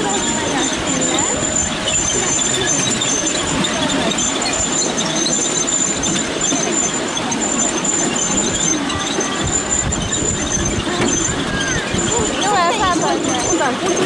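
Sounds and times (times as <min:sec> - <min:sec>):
high wheel squeal: 0:00.0 - 0:14.0
train wheels rumbling on rail: 0:00.0 - 0:14.0.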